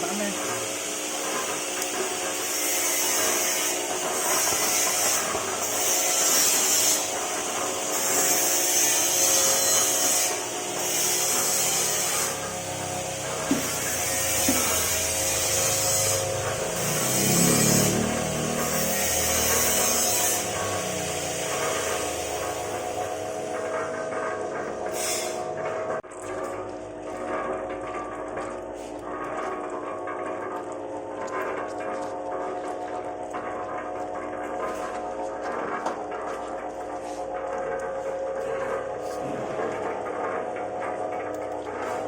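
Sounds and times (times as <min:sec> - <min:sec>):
machine motor humming: 0:00.0 - 0:42.0.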